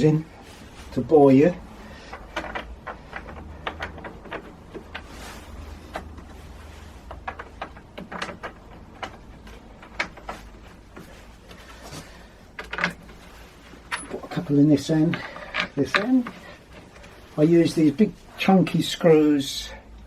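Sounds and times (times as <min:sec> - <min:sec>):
wooden strips clicking and knocking: 0:01.6 - 0:17.8.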